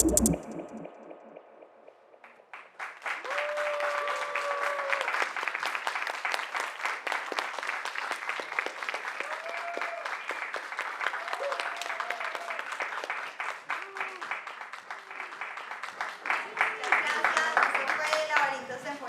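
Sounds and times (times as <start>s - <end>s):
audience applauding: 2.4s - 18.7s.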